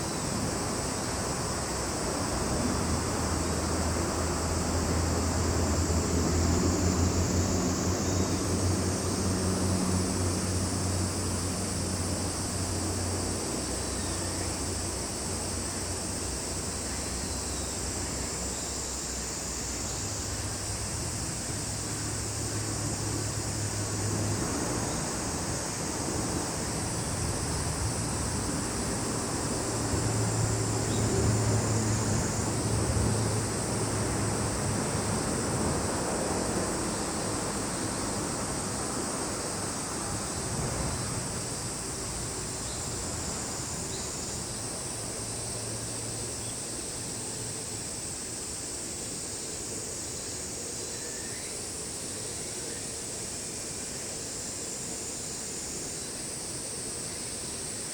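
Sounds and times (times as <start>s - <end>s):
insects trilling: 0.0s - 57.9s
low engine hum: 0.1s - 47.6s.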